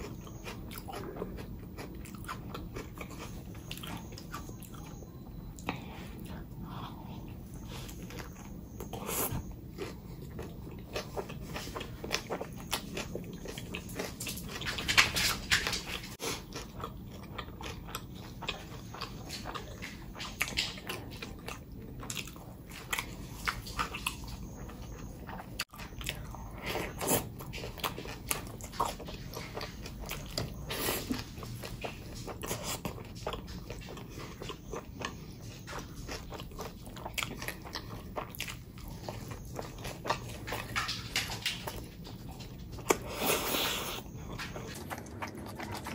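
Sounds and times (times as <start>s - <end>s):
chewing with wet mouth sounds: 0.0s - 45.9s.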